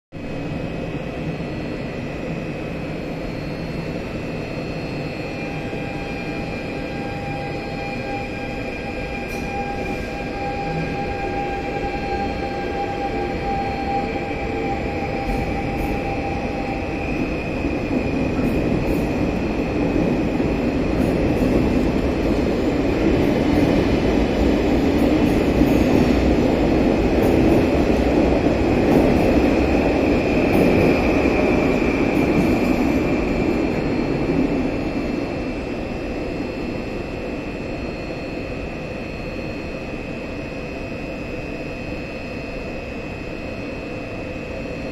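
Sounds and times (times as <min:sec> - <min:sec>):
train wheels rumbling on rails: 0:00.2 - 0:37.8.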